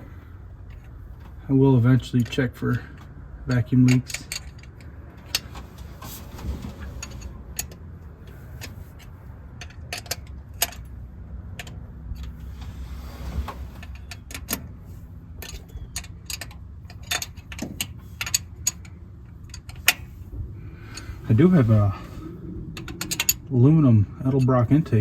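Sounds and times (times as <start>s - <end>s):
pickup engine idling: 2.6s - 25.0s.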